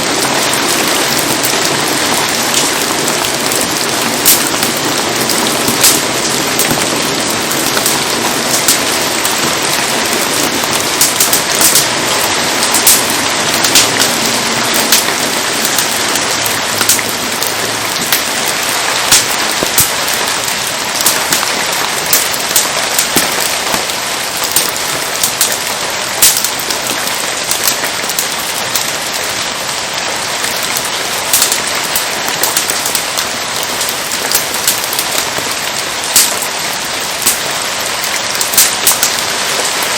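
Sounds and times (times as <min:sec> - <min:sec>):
steady rain falling: 0:00.0 - 0:39.9
sharp ticks and pops: 0:00.2 - 0:29.2, 0:30.4 - 0:39.9.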